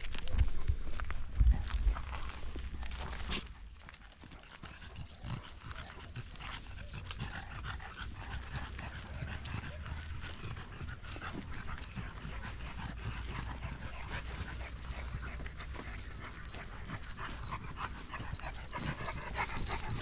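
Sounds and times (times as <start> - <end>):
dogs panting: 0.0 - 20.0
footsteps crunching on dirt: 0.0 - 20.0.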